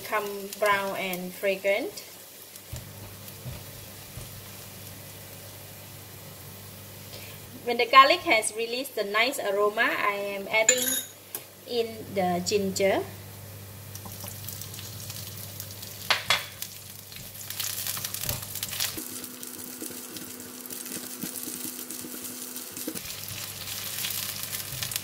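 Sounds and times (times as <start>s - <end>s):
ginger and garlic sizzling in oil: 0.0s - 11.8s, 12.5s - 25.0s.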